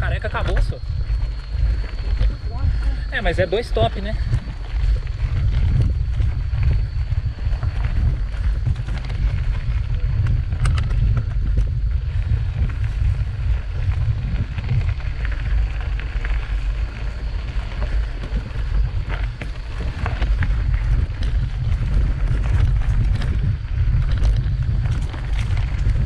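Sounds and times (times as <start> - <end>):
bike tyres rattling over stones: 0.0 - 26.0
wind rumbling on microphone: 0.0 - 26.0.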